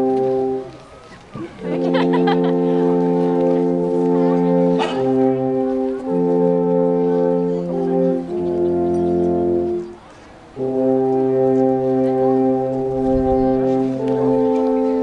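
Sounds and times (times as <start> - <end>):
alphorns playing chords: 0.0 - 0.9, 1.5 - 15.0.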